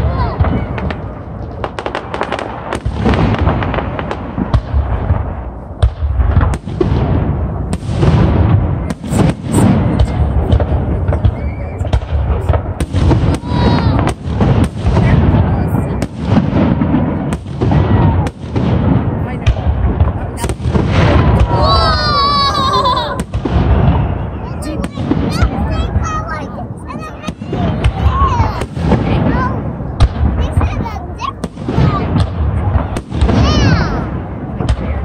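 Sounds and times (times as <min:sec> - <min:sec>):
fireworks bangs: 0:00.0 - 0:35.0
fireworks crackle: 0:00.0 - 0:35.0.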